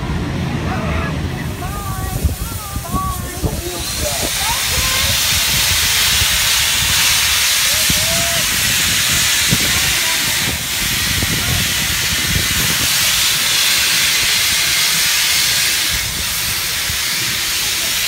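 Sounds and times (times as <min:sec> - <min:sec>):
locomotive venting steam: 0:00.0 - 0:18.0.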